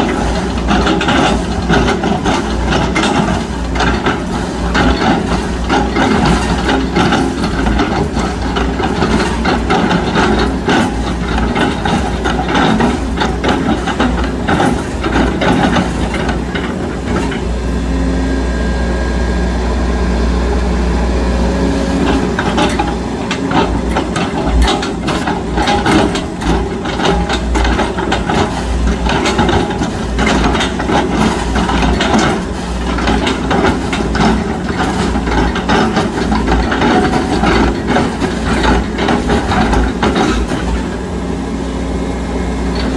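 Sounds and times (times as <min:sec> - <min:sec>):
excavator knocks and clatter: 0:00.0 - 0:17.6, 0:22.0 - 0:41.4, 0:42.6 - 0:42.9
excavator diesel engine running: 0:00.0 - 0:42.9.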